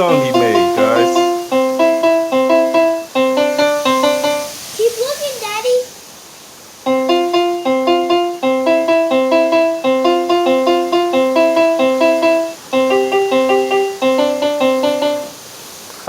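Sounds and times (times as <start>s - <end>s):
child playing keyboard: 0.0s - 4.7s, 6.8s - 15.4s.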